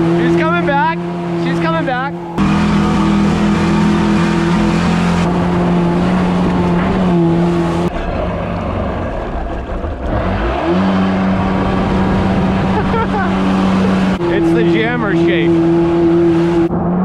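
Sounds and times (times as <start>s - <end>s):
jet ski engine running: 0.0s - 16.7s.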